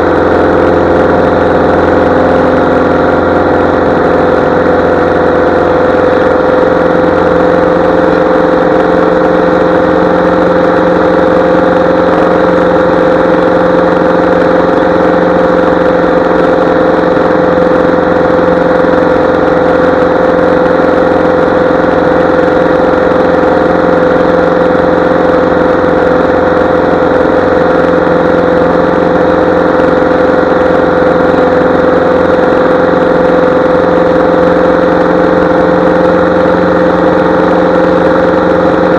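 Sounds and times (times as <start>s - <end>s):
airplane piston engine and propeller: 0.0s - 38.9s.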